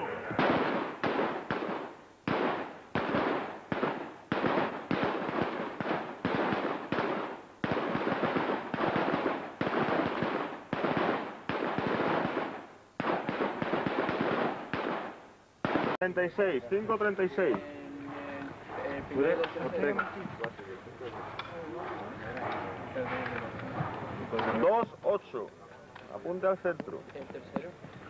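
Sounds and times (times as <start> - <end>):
rifle shots with echo: 0.2 - 16.0, 18.1 - 24.9.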